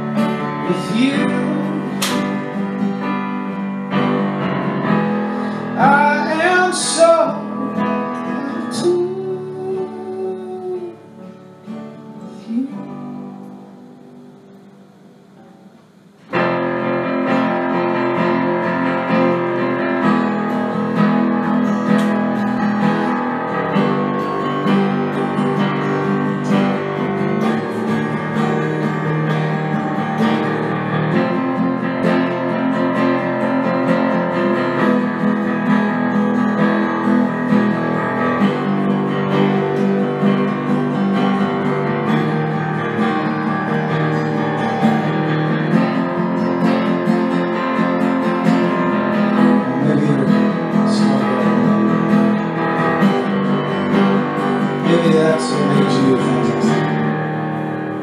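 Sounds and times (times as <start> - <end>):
strummed guitar: 0.0 - 58.0.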